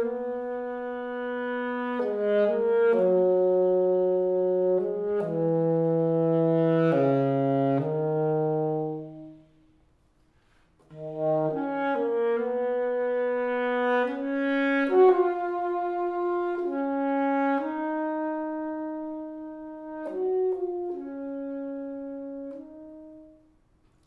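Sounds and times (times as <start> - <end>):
solo saxophone melody: 0.0 - 23.6.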